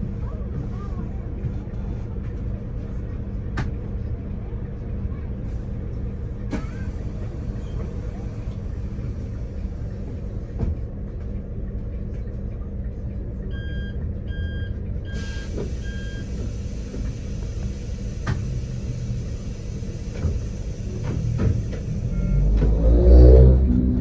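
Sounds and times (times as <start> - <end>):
low rumble of moving vehicle: 0.0 - 24.0.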